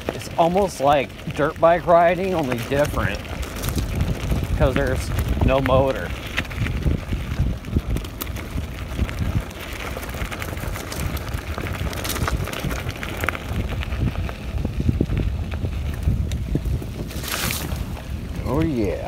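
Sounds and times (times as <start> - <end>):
bike rattling and knocking: 0.0 - 19.0
tyres rumbling on gravel: 0.0 - 19.0
wind on microphone: 0.0 - 19.0.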